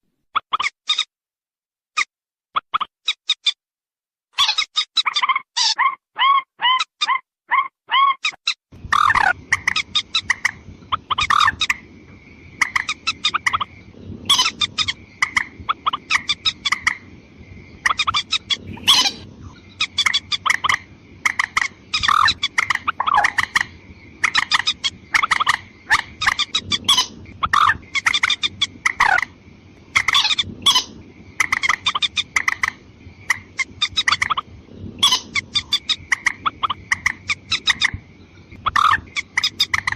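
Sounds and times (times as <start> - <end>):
rapid sharp bird calls: 4.4 - 39.9.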